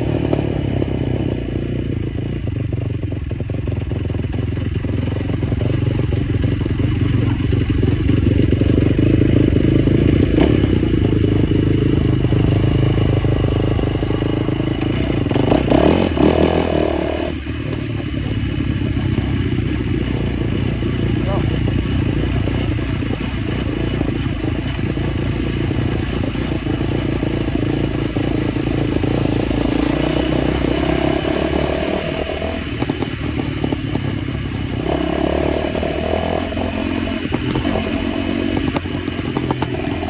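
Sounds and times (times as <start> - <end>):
small motorcycle engine running: 0.0 - 40.0.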